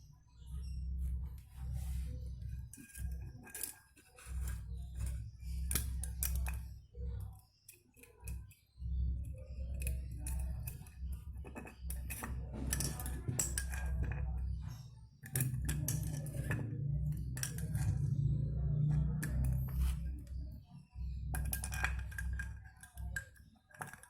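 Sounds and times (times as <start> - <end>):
intermittent low rumble: 0.0 - 7.5, 8.2 - 23.6
metal parts and tools clinking: 2.4 - 8.6, 9.2 - 20.3, 21.2 - 24.0.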